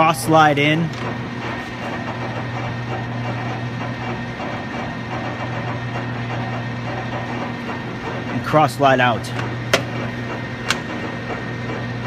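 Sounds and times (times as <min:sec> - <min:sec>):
lathe mechanical hum: 0:00.0 - 0:12.0.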